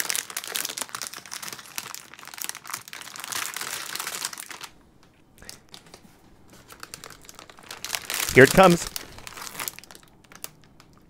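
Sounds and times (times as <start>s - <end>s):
plastic bag crinkling: 0.0s - 4.8s, 5.4s - 11.0s.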